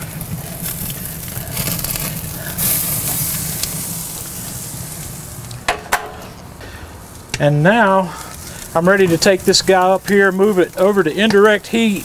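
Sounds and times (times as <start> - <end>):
steak sizzling on a grill: 0.0 - 12.0.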